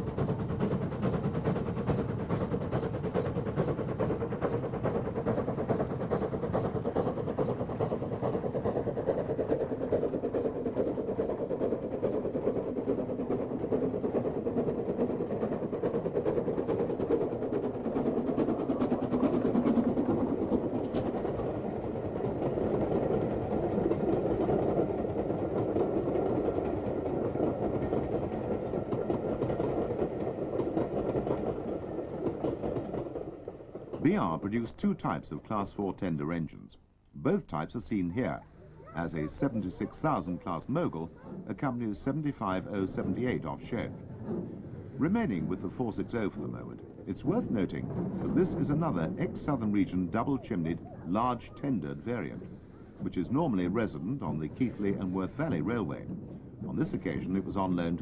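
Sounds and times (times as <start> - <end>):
steam locomotive exhaust beating: 0.0 - 58.0.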